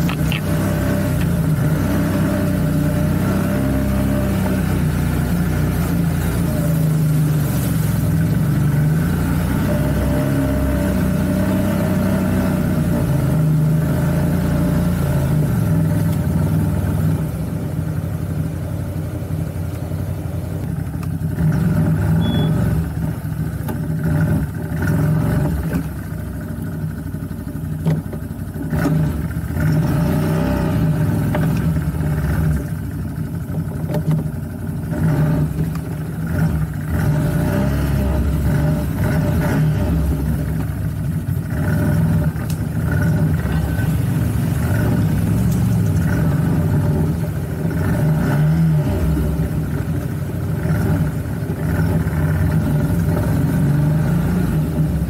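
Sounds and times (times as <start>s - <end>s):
atv engine revving while riding: 0.0s - 55.0s.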